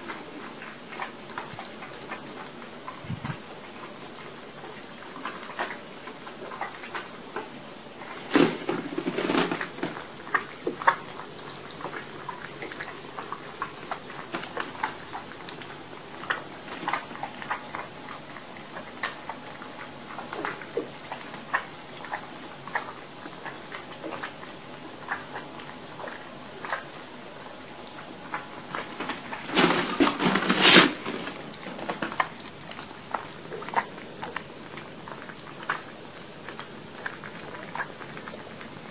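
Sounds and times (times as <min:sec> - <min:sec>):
kittens lapping milk: 0:00.0 - 0:38.9.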